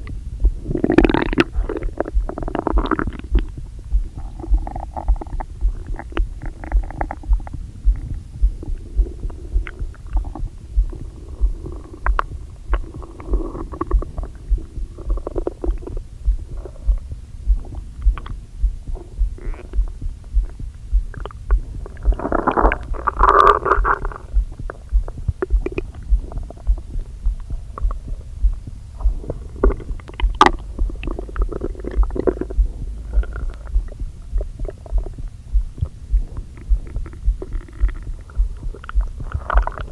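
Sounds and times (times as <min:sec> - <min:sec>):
low pulsing thud: 0:00.0 - 0:39.9
stomach gurgling: 0:00.0 - 0:39.9.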